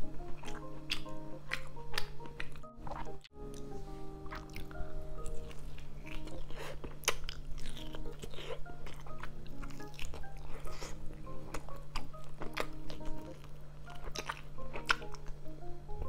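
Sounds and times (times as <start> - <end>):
background music: 0.0 - 16.0
person biting and chewing: 0.2 - 3.7, 4.3 - 15.4.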